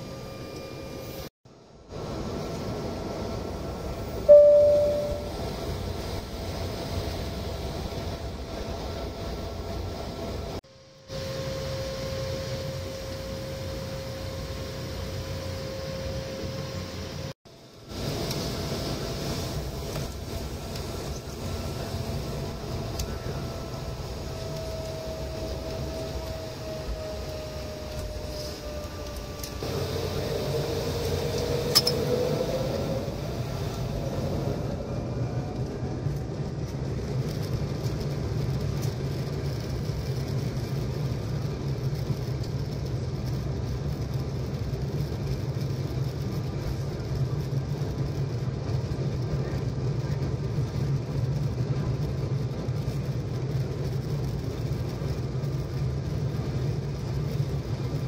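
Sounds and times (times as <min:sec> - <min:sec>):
jet engines whining: 0:00.0 - 0:58.0
wheels rumbling on runway: 0:00.0 - 0:58.0.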